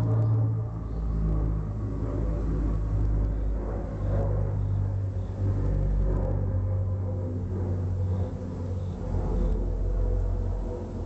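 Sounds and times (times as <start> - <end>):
helicopter rotor rumble: 0.0 - 11.0.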